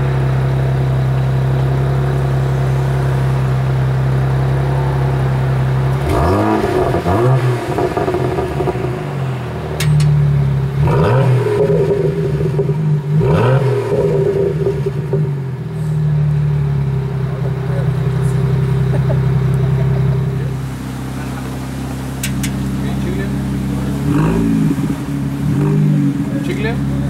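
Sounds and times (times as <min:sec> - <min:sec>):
car engine idling and revving: 0:00.0 - 0:27.0
exhaust cracks: 0:00.0 - 0:27.0.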